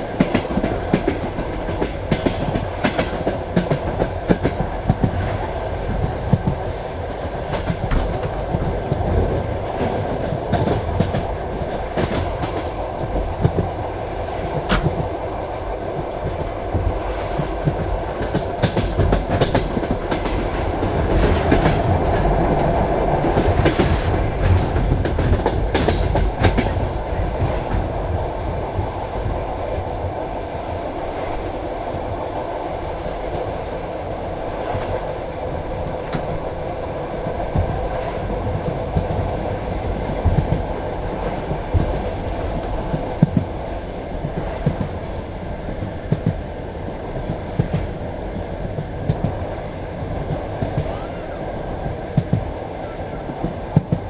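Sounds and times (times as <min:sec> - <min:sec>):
train carriage rumbling on track: 0:00.0 - 0:54.0.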